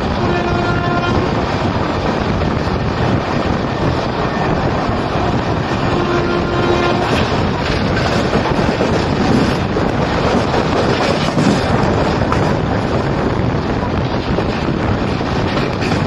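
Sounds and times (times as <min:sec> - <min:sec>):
train wheels on rails: 0:00.0 - 0:16.0
wind rushing on microphone: 0:00.0 - 0:16.0.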